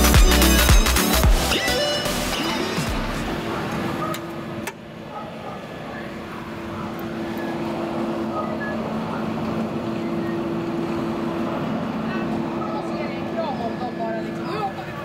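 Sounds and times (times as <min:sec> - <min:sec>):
elevator pump humming: 0:00.0 - 0:15.0.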